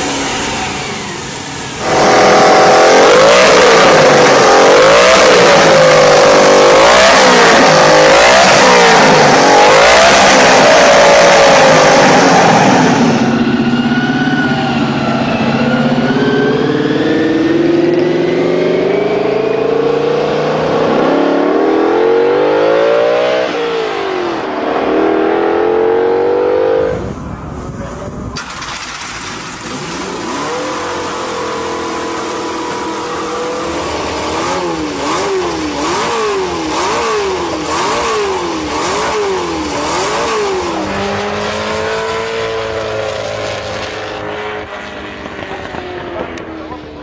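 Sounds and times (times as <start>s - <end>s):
racing engine revving: 0.0s - 27.4s, 28.4s - 47.0s
sports car accelerating: 0.0s - 47.0s.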